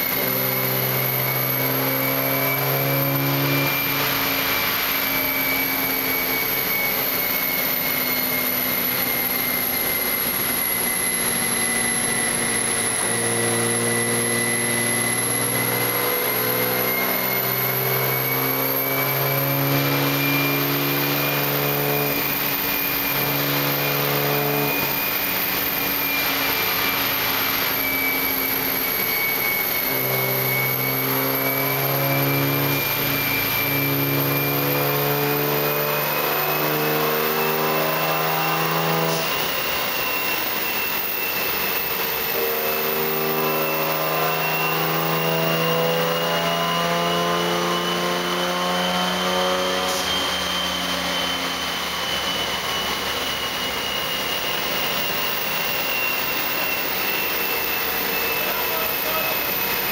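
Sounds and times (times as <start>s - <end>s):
race car engine running: 0.0s - 59.9s
steady high whine: 0.0s - 59.9s.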